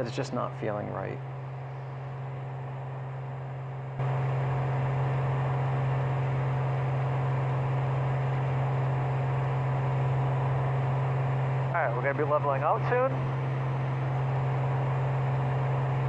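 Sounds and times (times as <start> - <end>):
propeller engine droning: 0.0 - 16.0.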